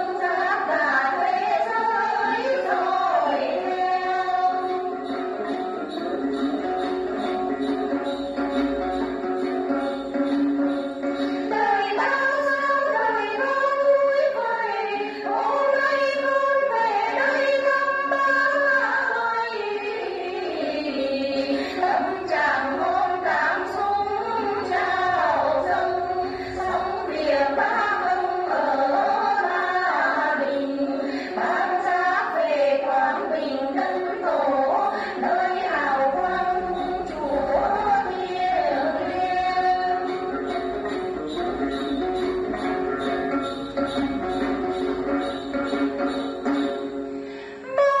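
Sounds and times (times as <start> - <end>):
women singing: 0.0 - 46.7, 47.7 - 48.0
plucked lute: 0.0 - 48.0.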